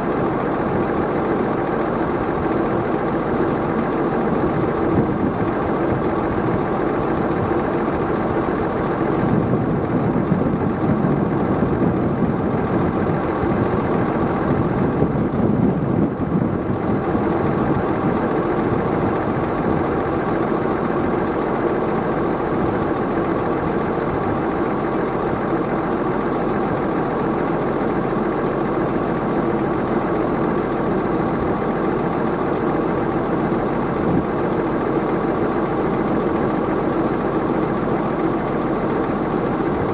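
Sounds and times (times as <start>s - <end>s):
round baler running: 0.0s - 39.9s
tractor engine running: 0.0s - 39.9s.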